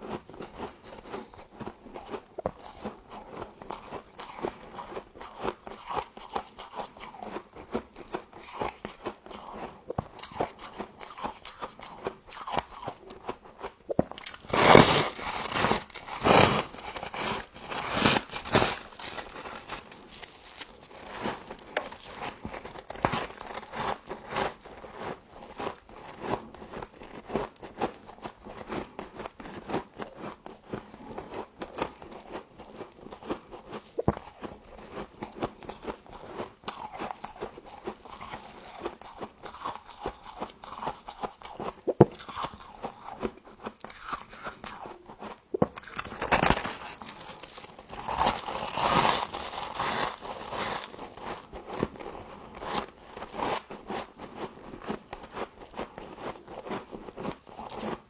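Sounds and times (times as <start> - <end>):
crunching and chewing frost: 0.0 - 58.0.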